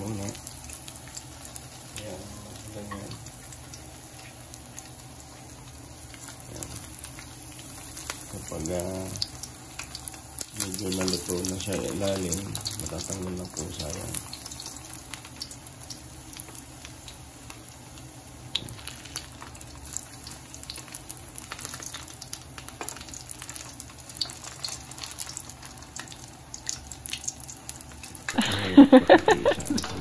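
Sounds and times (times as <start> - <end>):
batter frying in hot oil: 0.0 - 30.0
burst of sizzling: 0.0 - 30.0.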